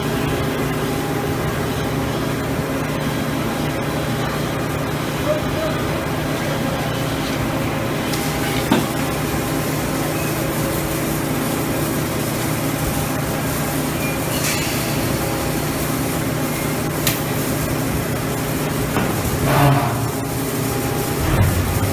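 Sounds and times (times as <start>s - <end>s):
industrial machinery humming: 0.0s - 21.9s.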